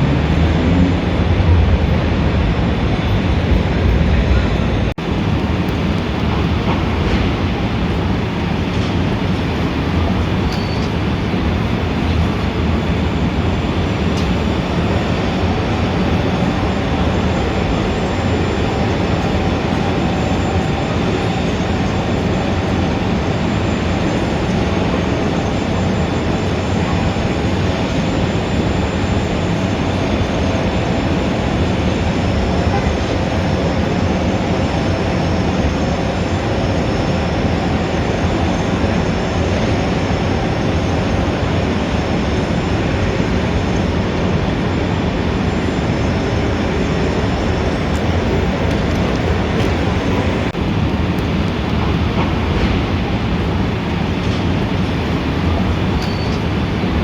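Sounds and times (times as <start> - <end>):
low rumble of traffic: 0.0 - 57.0
faint high whining tones: 2.7 - 57.0.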